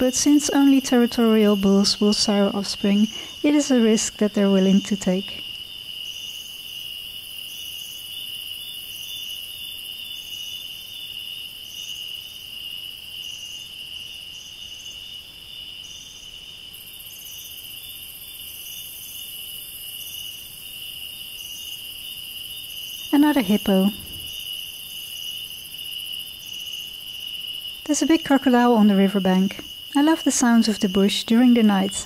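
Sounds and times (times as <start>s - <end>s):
cricket chirping: 0.0s - 32.0s
insects trilling: 0.0s - 32.0s.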